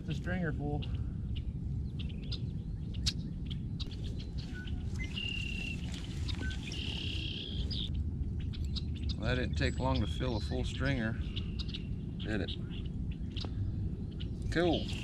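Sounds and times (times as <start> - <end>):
low rumble: 0.0 - 15.0
birds whistling calls: 0.6 - 15.0.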